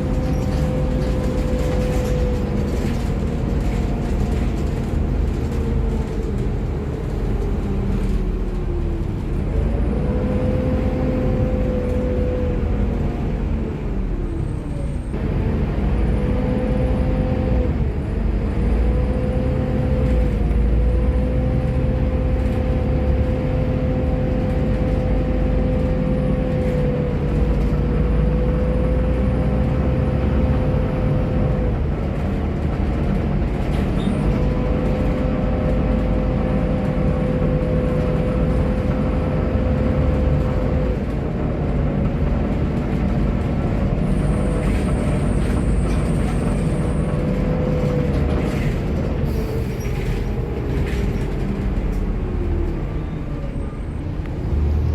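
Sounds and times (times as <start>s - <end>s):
bus engine rumble: 0.0s - 54.9s.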